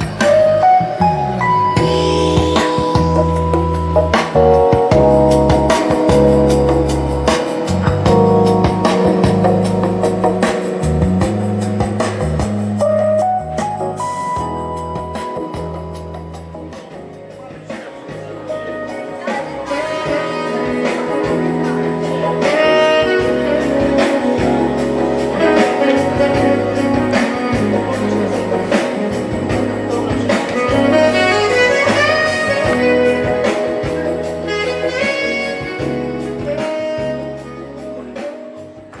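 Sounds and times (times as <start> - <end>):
deep bass notes: 0.0 - 39.0
music over speakers: 0.0 - 39.0.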